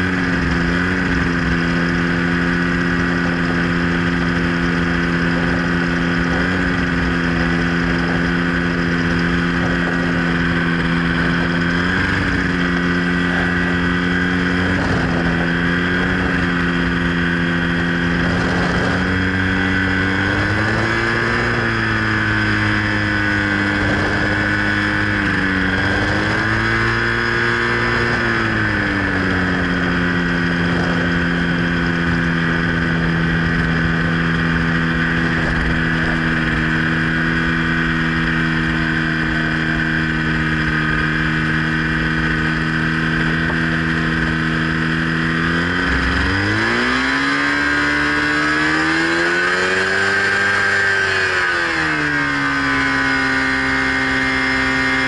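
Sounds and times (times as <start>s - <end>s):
wind rushing past microphone: 0.0s - 52.0s
aircraft engine and propeller: 0.0s - 55.0s.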